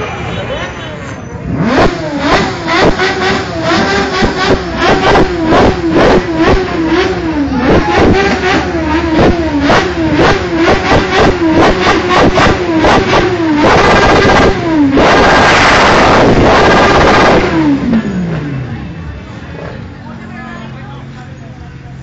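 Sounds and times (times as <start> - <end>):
motorcycle engine revving: 1.0 - 20.3.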